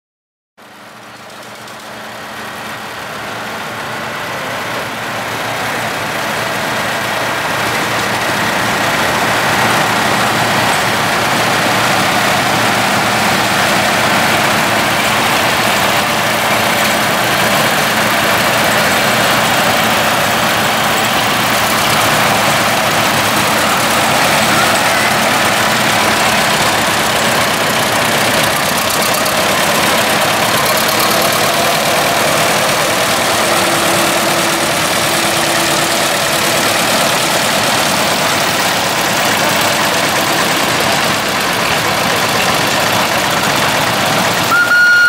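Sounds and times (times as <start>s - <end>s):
tractor engine running: 0.6s - 45.0s.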